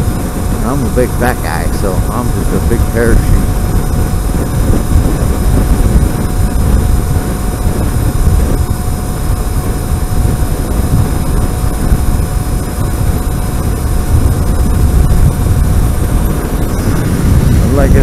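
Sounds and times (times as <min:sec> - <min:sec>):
motorcycle road noise: 0:00.0 - 0:18.0
thin steady whine: 0:00.0 - 0:18.0
wind rumbling on microphone: 0:00.0 - 0:18.0.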